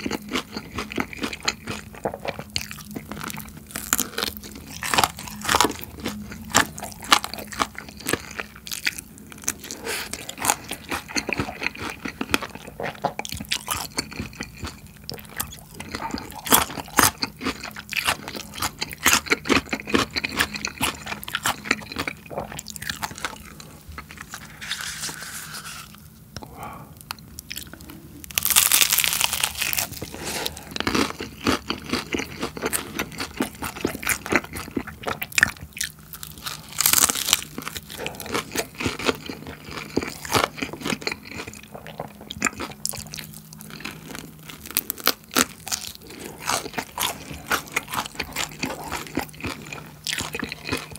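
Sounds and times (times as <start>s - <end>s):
chewing and crunching food: 0.0s - 50.9s.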